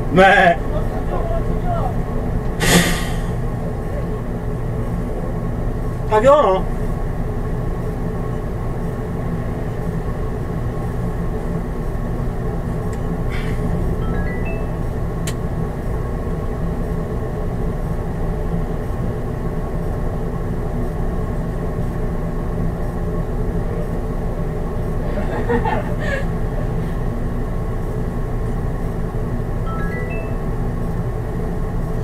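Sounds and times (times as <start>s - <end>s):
bus engine idling: 0.0s - 32.0s.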